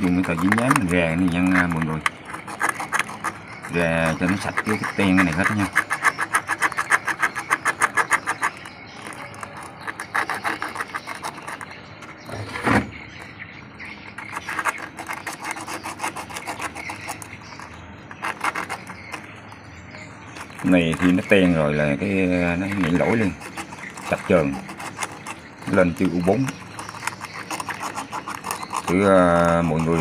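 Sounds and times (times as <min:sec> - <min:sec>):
sandpaper rasping on metal: 0:00.0 - 0:12.6, 0:14.2 - 0:19.5, 0:20.4 - 0:30.0.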